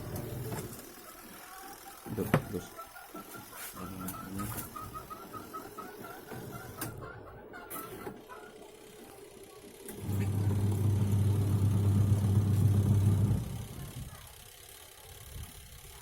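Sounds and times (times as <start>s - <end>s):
washing machine motor humming: 0.0s - 7.0s, 8.0s - 15.9s.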